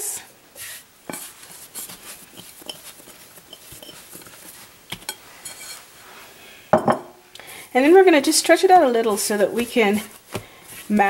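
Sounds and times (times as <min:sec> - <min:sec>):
hand brushing flour on marble: 0:00.5 - 0:06.4, 0:07.8 - 0:11.0.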